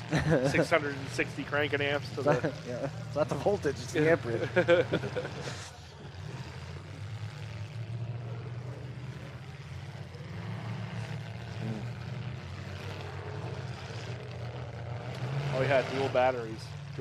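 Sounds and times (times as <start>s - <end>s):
truck engines running: 0.0s - 17.0s.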